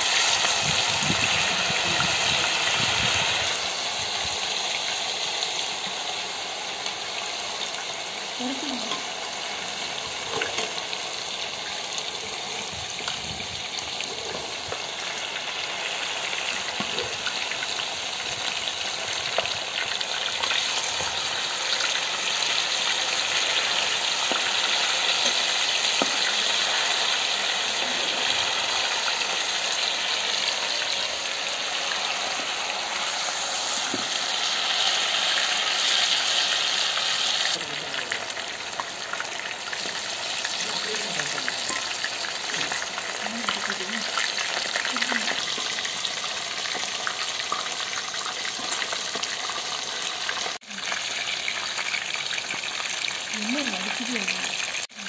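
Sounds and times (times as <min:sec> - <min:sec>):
fish frying in hot oil: 0:00.0 - 0:55.0.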